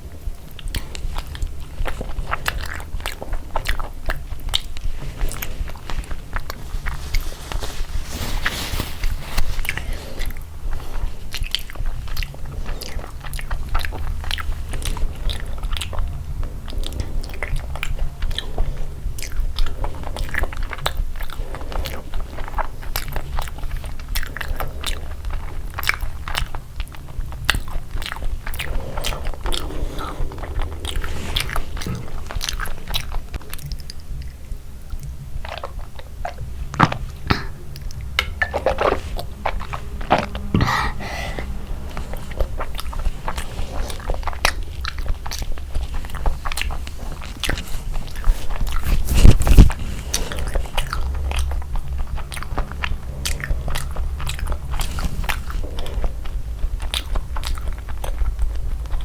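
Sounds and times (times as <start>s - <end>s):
food crunching: 0.0s - 59.0s
person chewing food: 0.0s - 59.0s
steady low hum: 0.0s - 59.0s.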